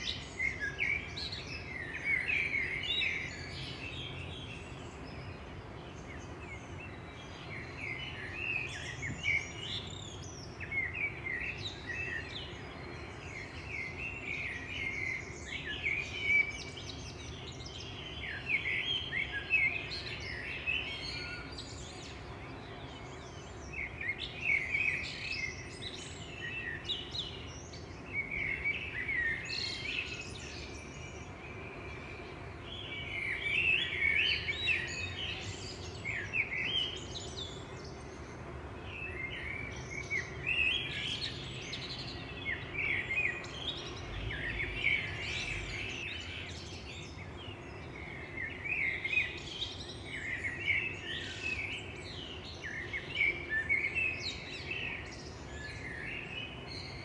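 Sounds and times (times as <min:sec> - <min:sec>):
low background noise: 0:00.0 - 0:57.0
songbirds chirping: 0:00.0 - 0:57.0.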